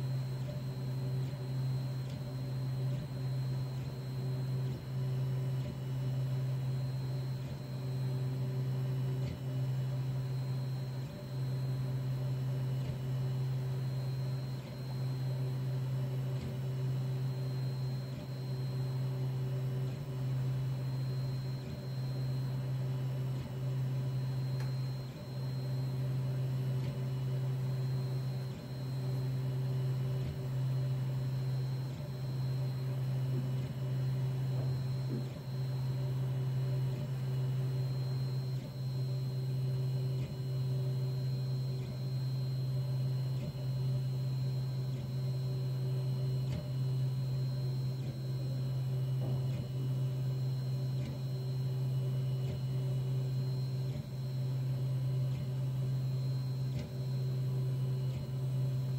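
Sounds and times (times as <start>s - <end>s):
printer humming and ticking: 0.0s - 58.9s.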